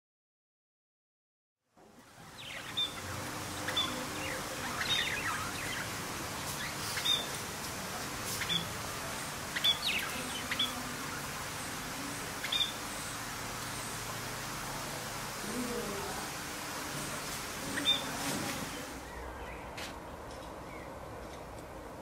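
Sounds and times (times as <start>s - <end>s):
background hiss: 1.8s - 22.0s
birds chirping: 2.0s - 22.0s.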